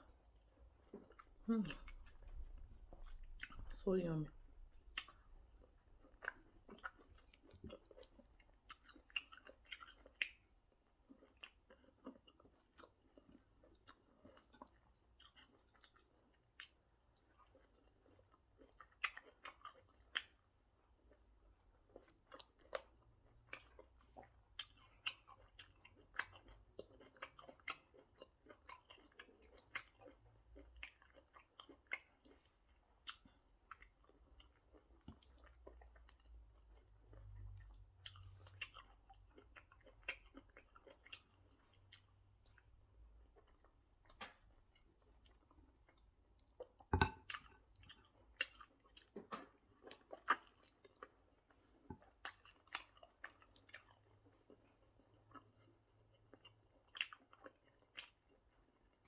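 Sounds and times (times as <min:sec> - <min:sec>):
person chewing and smacking: 0:00.0 - 0:59.0.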